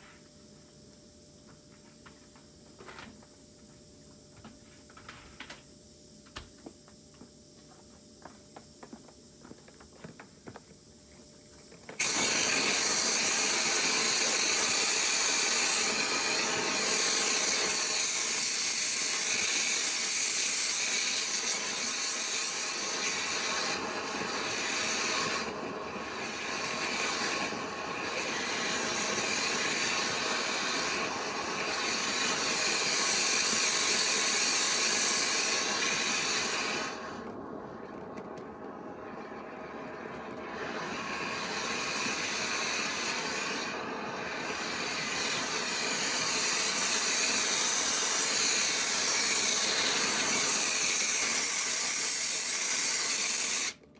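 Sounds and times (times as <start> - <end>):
vent cleaning machine rushing air: 0.0 - 53.9.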